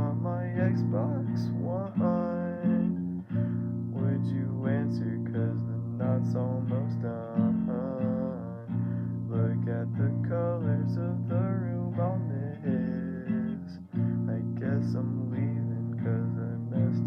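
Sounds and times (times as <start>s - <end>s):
acoustic guitar strumming: 0.0s - 17.0s
sliding guitar melody: 0.0s - 17.0s.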